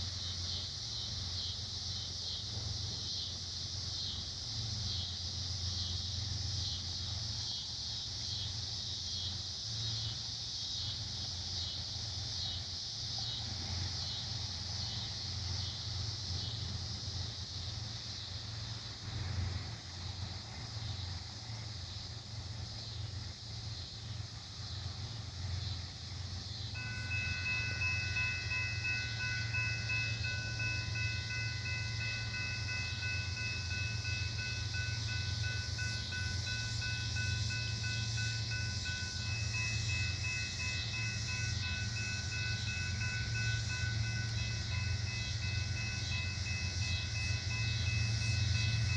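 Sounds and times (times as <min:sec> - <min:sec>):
train rolling past: 0:00.0 - 0:48.9.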